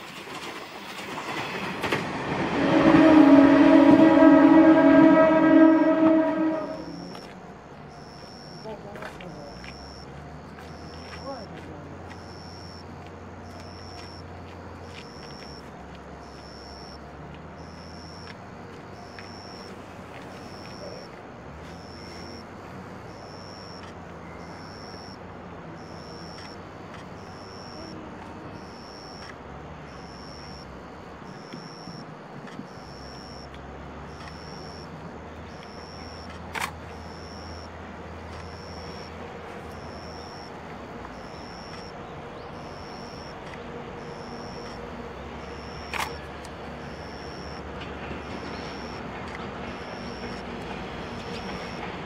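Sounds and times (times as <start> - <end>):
approaching freight train rumble: 0.0 - 52.0.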